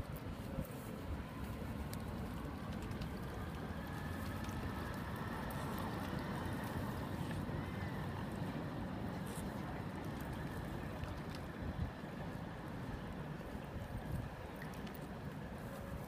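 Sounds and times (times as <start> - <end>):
city traffic: 0.0 - 16.0
river boats rumbling: 0.0 - 16.0.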